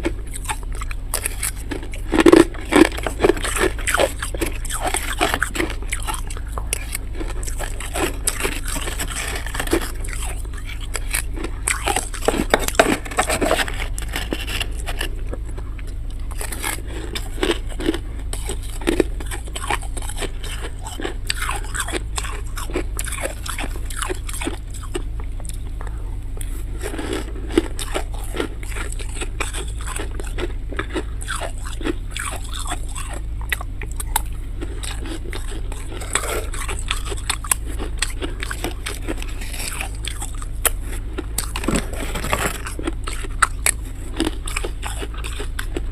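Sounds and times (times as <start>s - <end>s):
person chewing crunchy frost: 0.0s - 45.9s
steady low hum: 0.0s - 45.9s.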